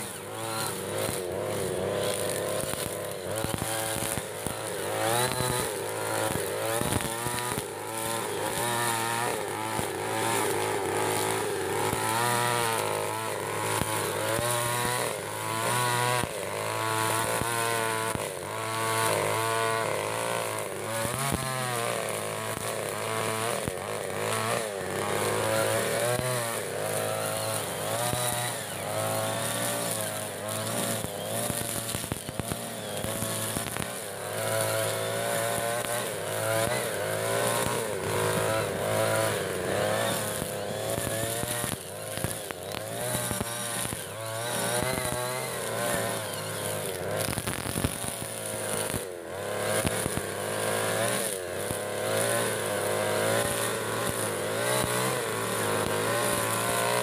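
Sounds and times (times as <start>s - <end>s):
brush cutter engine cutting grass: 0.0s - 57.0s.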